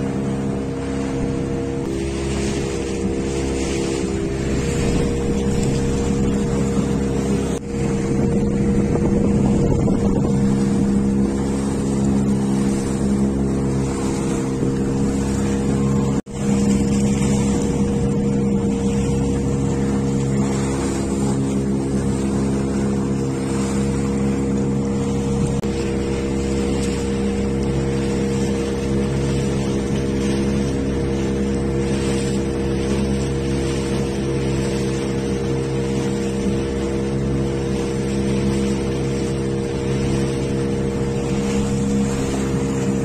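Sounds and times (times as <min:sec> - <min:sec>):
motorboat engine running: 0:00.0 - 0:43.0
water rushing against hull: 0:00.0 - 0:43.0.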